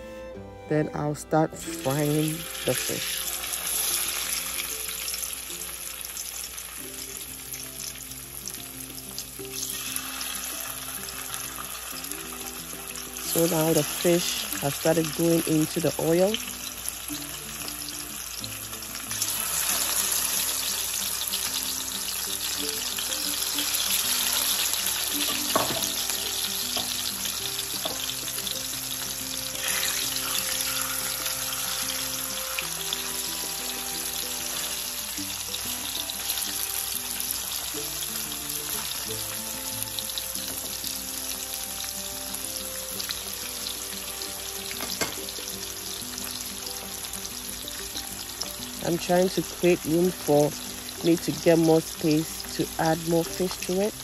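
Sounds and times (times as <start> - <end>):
background music: 0.0 - 54.0
fish sizzling in hot oil: 1.7 - 54.0.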